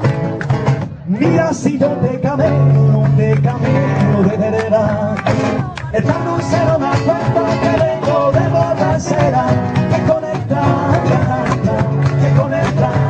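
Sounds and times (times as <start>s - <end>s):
flamenco guitar: 0.0s - 13.0s
person singing: 1.1s - 13.0s.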